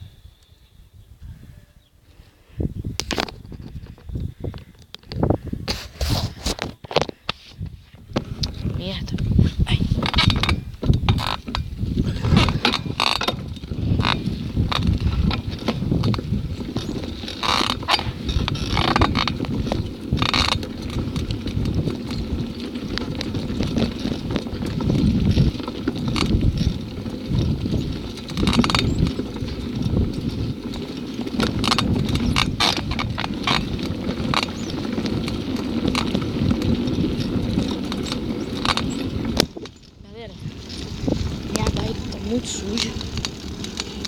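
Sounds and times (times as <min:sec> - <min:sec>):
wind and tyres rumbling: 0:00.0 - 0:44.0
bike rattling clicks: 0:02.9 - 0:05.4, 0:08.1 - 0:44.0.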